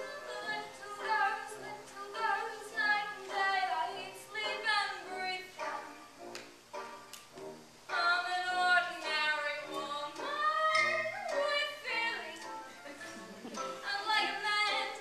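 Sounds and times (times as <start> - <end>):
woman singing: 0.0 - 5.9, 7.9 - 15.0
instrumental accompaniment: 0.0 - 15.0.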